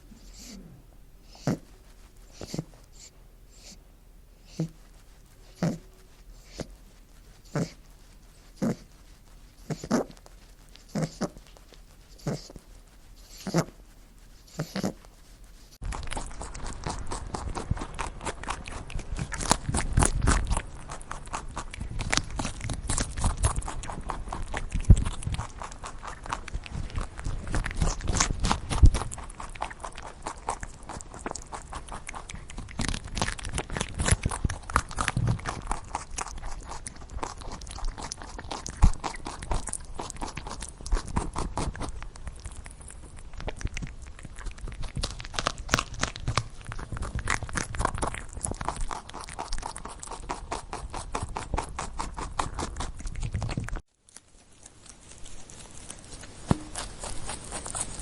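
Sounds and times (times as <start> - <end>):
rabbit chewing: 0.0 - 58.0.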